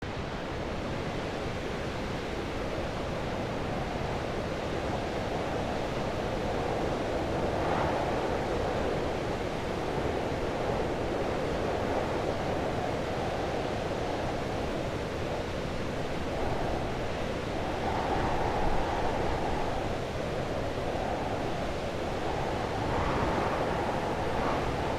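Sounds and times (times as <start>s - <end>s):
heavy wind blowing: 0.0s - 24.9s.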